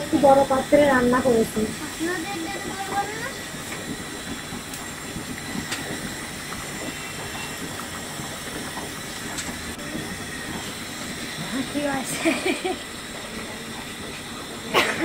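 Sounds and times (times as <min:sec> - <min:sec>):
rice sizzling in oil: 0:00.0 - 0:14.7.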